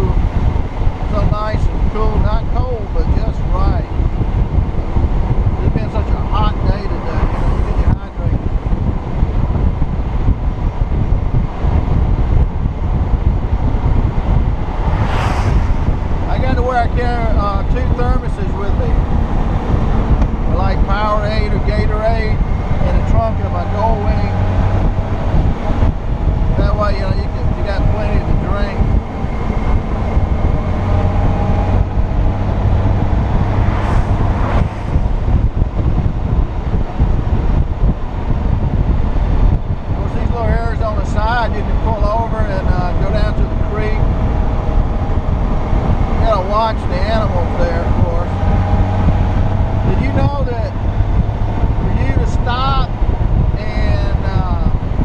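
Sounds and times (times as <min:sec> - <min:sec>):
motorcycle engine rumble: 0:00.0 - 0:55.0
wind buffeting microphone: 0:00.0 - 0:55.0.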